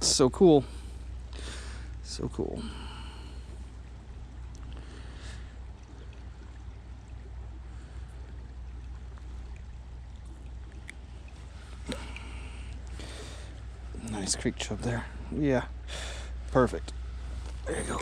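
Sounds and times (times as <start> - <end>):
creek water running: 0.0 - 18.0.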